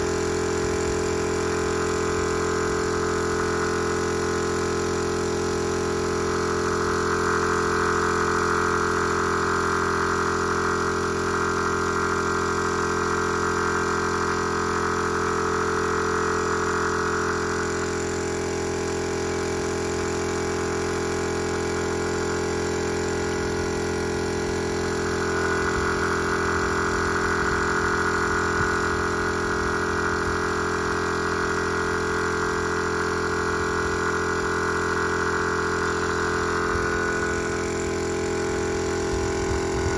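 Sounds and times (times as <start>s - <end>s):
air compressor running: 0.0s - 39.9s
spray gun hissing: 0.0s - 39.9s.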